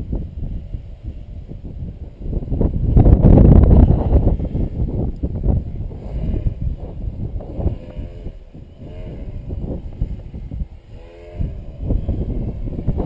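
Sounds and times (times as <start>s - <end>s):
model plane electric motor whine: 0.0s - 13.0s
wind buffeting microphone: 0.0s - 13.0s.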